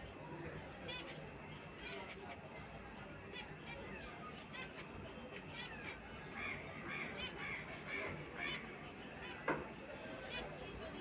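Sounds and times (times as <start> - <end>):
pet birds chirping: 0.0 - 9.5.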